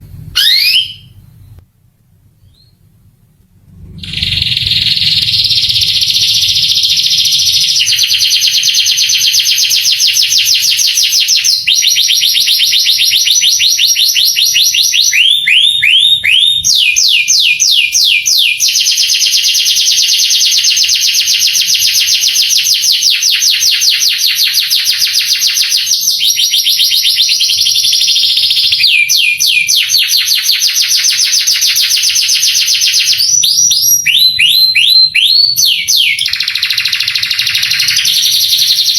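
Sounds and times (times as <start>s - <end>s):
canary singing rolled trills: 0.0s - 1.6s, 3.7s - 38.9s.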